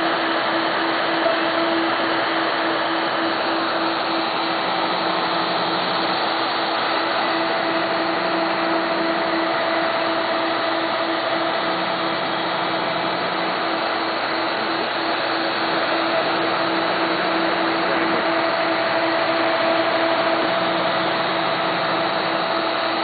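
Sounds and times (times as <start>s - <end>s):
low hum: 0.0s - 23.0s
machine motor whine: 0.0s - 23.0s.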